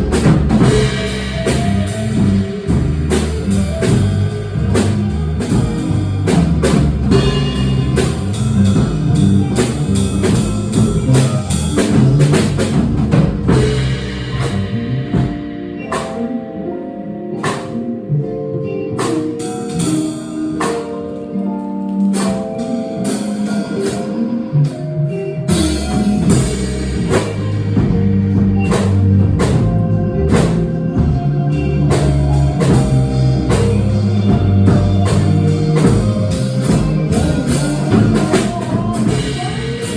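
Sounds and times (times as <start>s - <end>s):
small jazz band playing: 0.0s - 39.9s.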